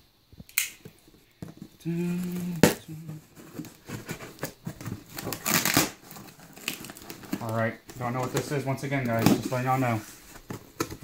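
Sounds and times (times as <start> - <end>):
cardboard box handled: 1.4 - 11.0
scraping and rustling: 1.4 - 11.0.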